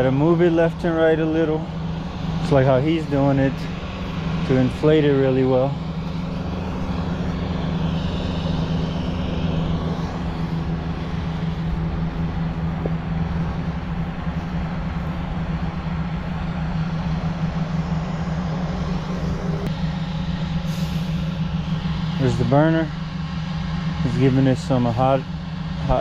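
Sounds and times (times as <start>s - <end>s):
engine-driven fan running: 0.0s - 26.0s.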